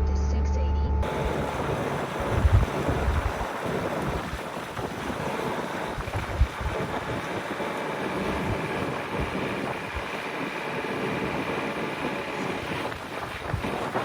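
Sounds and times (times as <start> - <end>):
wind buffeting microphone: 1.0 - 14.0.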